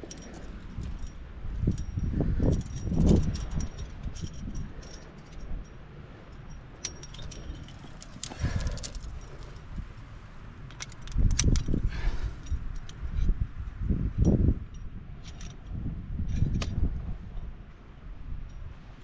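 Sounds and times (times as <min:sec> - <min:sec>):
metal climbing gear clinking: 0:00.0 - 0:19.0.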